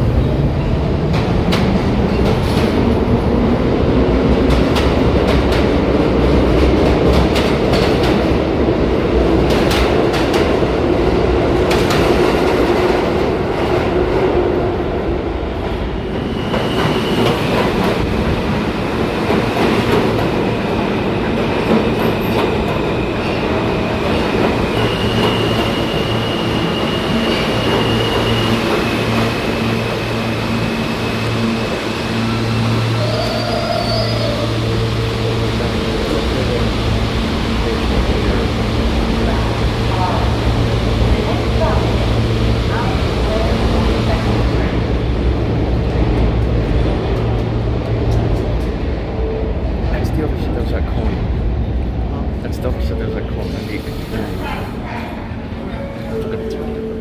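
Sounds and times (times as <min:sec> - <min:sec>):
train rumble: 0:00.0 - 0:57.0.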